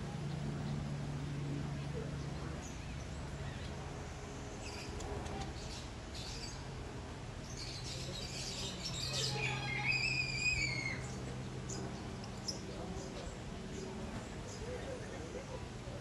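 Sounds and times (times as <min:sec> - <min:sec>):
low steady hum: 0:00.0 - 0:16.0
small birds chirping: 0:01.7 - 0:06.8, 0:07.4 - 0:16.0.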